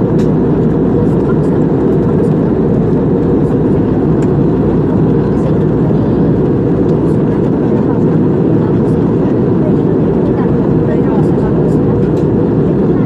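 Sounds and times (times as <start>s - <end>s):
airliner cabin engine rush: 0.0s - 13.0s.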